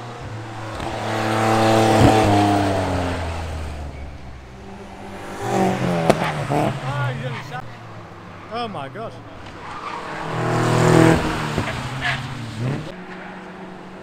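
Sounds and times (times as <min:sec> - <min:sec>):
car engine rising: 0:00.0 - 0:14.0
racing car passing at speed: 0:00.0 - 0:14.0.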